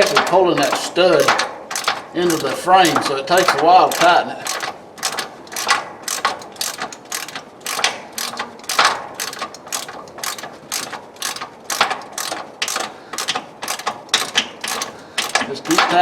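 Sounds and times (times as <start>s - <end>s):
ratchet wrench clicking: 0.0s - 16.0s.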